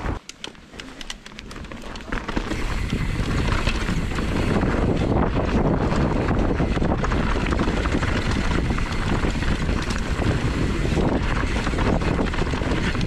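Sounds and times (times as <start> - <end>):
bike clattering over rough trail: 0.0 - 13.0
wind rush on microphone: 2.2 - 13.0.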